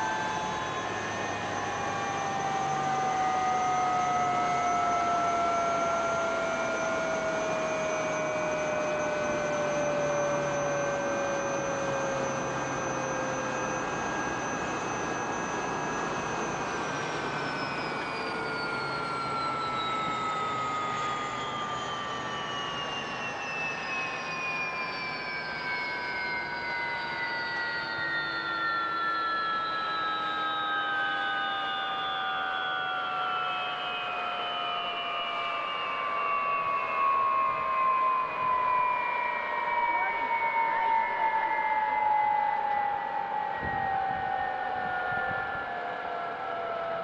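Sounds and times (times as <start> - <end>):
jet engine whining: 0.0 - 47.0.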